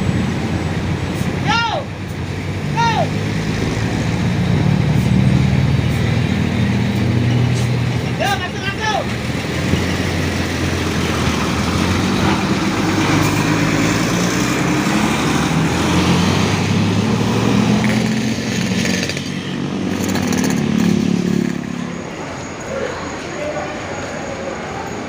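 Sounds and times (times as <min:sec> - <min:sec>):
bus diesel engine passing: 0:00.0 - 0:25.0.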